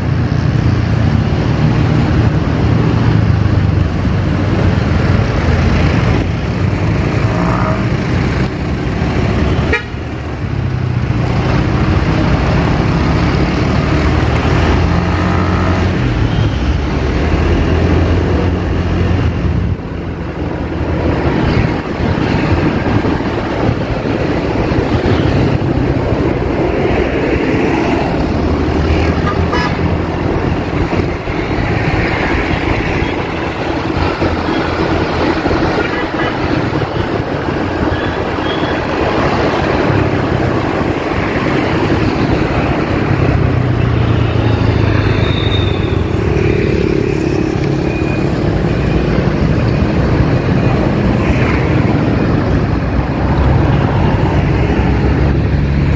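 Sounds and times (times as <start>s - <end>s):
road and wind noise: 0.0s - 55.9s.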